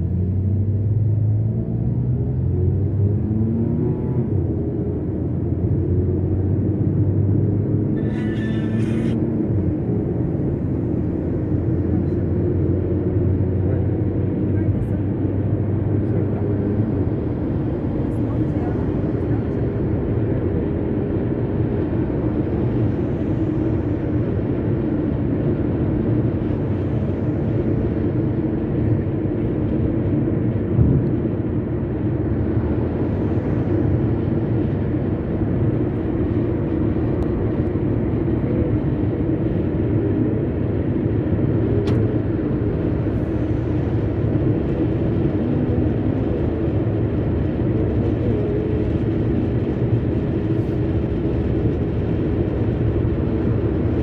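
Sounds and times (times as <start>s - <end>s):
car road and engine noise: 0.0s - 54.0s
vehicles passing: 0.0s - 54.0s.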